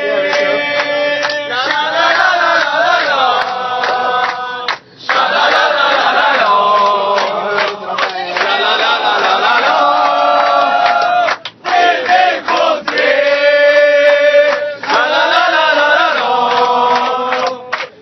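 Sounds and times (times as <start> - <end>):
crowd singing a chant: 0.0 - 17.9.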